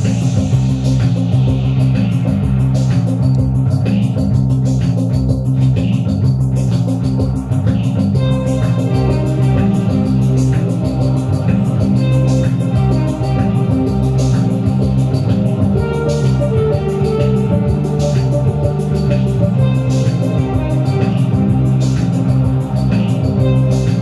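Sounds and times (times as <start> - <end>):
rock music from tape: 0.0 - 24.0.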